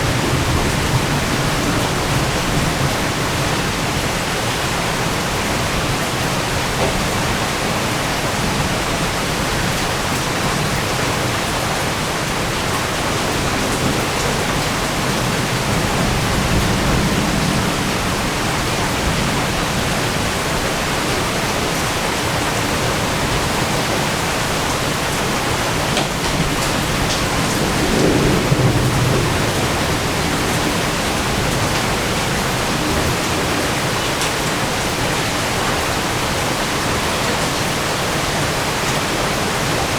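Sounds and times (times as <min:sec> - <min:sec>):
thunder rumbling: 0:00.0 - 0:09.2, 0:09.8 - 0:35.6
heavy rain falling: 0:00.0 - 0:39.9.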